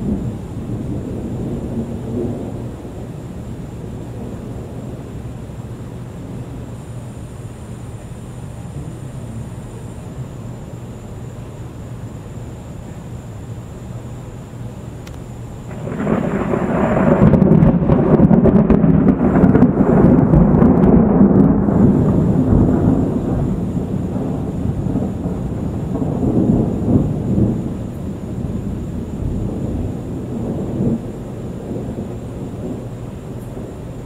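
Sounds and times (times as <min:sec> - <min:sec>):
thunder rumbling: 0:00.0 - 0:13.2, 0:15.1 - 0:34.0.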